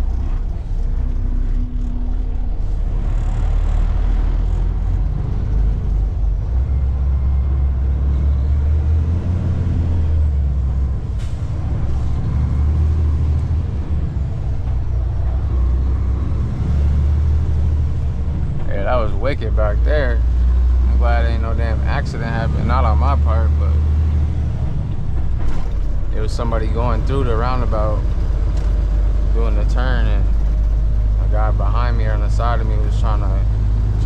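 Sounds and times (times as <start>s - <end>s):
truck diesel engine under load: 0.0s - 34.0s.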